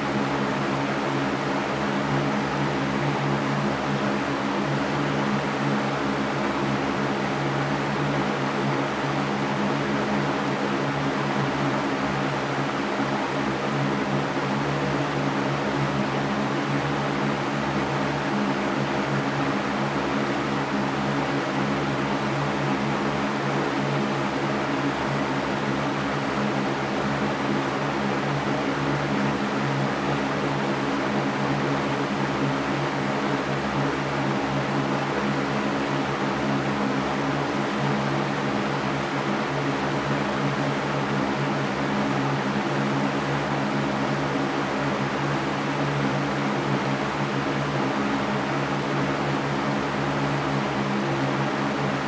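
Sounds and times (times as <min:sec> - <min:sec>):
electric fan airy rush: 0:00.0 - 0:52.0.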